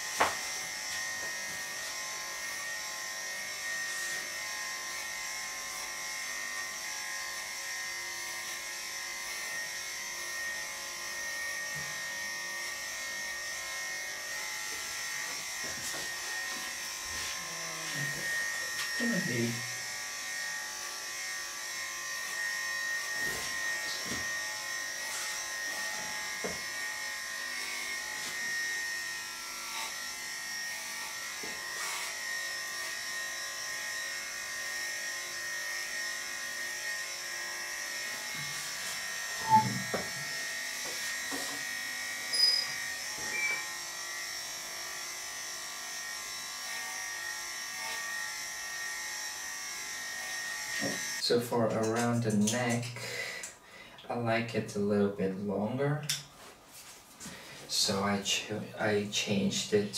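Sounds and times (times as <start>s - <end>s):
electric clippers humming: 0.0s - 51.2s.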